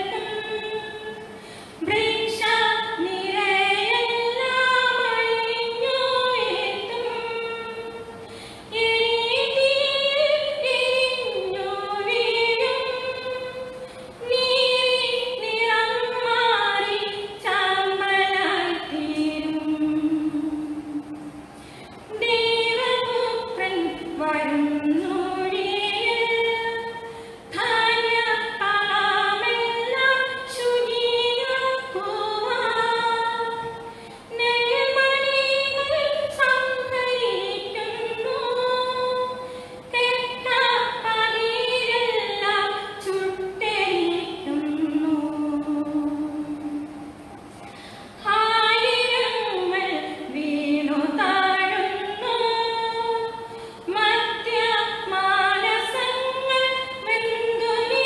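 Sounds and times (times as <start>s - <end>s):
woman singing a hymn: 0.0s - 21.3s, 22.1s - 47.1s, 48.2s - 58.0s.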